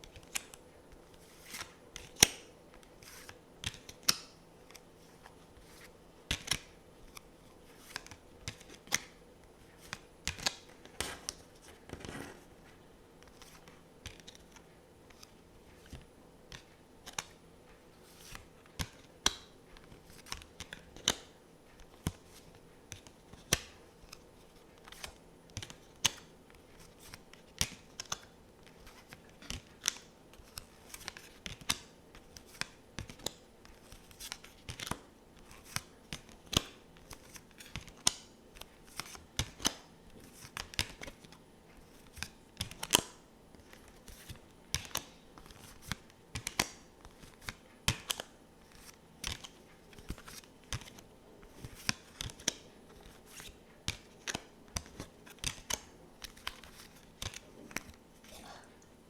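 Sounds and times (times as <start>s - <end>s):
cards clicking and tapping: 0.0s - 9.2s, 9.8s - 12.5s, 13.2s - 58.0s.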